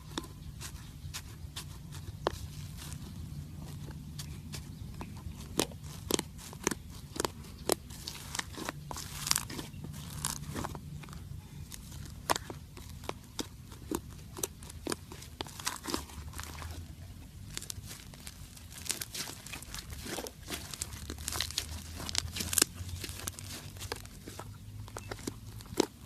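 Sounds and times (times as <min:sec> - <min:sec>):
slime crunching and crackling: 0:00.0 - 0:26.0.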